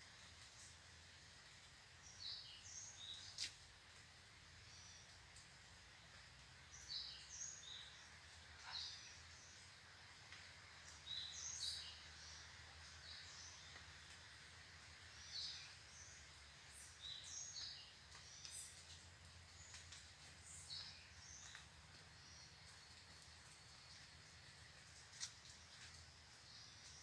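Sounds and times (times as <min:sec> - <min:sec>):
faint birds chirping: 0:00.0 - 0:27.0
faint steady hiss: 0:00.0 - 0:27.0.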